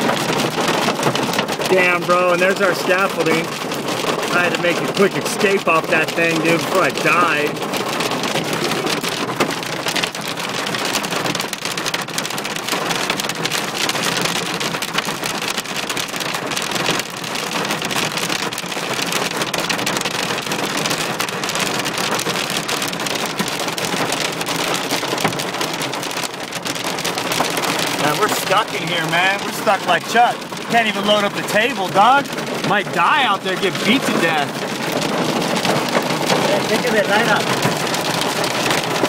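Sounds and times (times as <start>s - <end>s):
hail pelting down: 0.0s - 39.0s.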